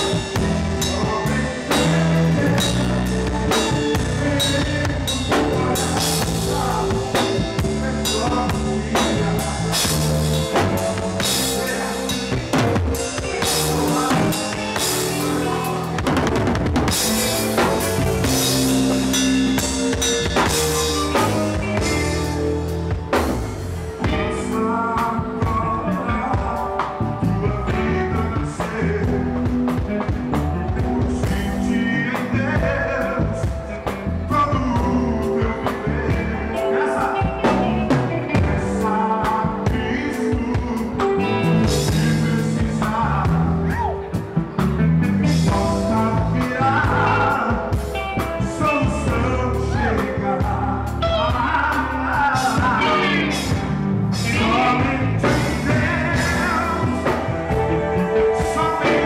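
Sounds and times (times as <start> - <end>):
band playing a song: 0.0 - 59.0
drums keeping a steady beat: 0.0 - 59.0
person singing: 0.0 - 59.0.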